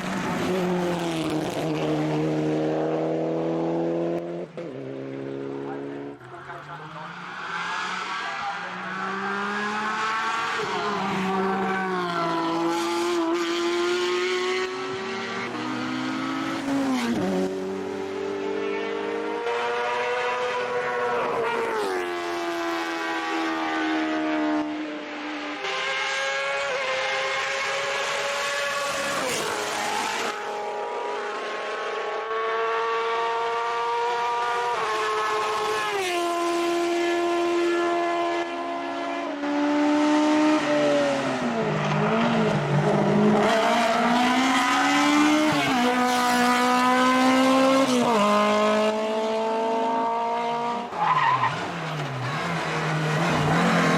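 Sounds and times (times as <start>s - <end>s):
race car engine revving high: 0.0s - 53.9s.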